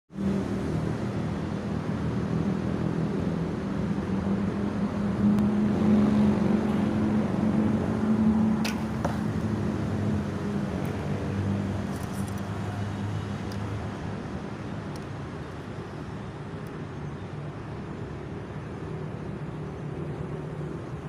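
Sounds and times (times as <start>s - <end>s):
engine droning: 0.1s - 21.0s.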